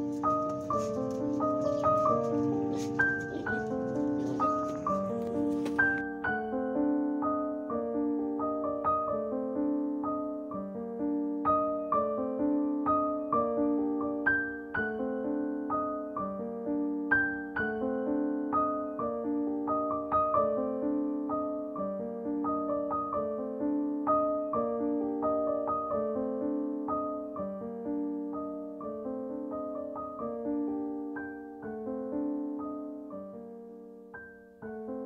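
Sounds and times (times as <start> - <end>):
gentle piano melody: 0.0 - 35.0.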